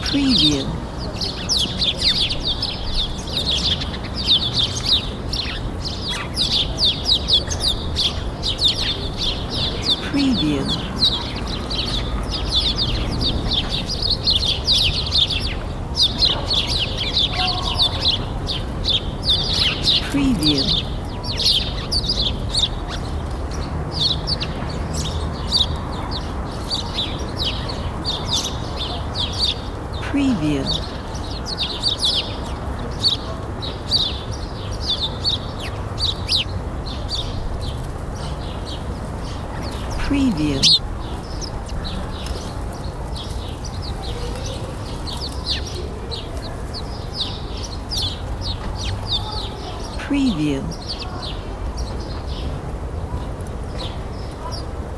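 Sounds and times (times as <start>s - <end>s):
distant city traffic rumble: 0.0s - 54.9s
small birds chirping: 0.0s - 54.9s.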